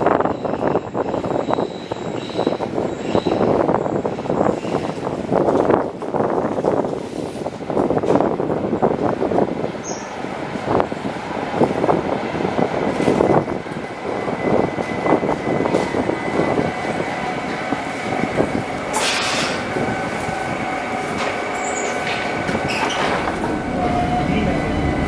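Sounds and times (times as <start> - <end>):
train wheel rumble and clatter: 0.0 - 25.0.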